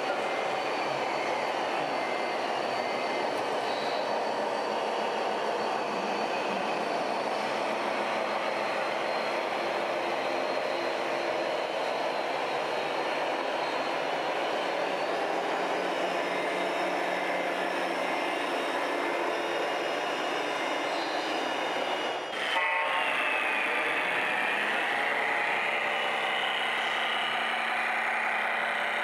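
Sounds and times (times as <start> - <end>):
model truck running: 0.0 - 29.0.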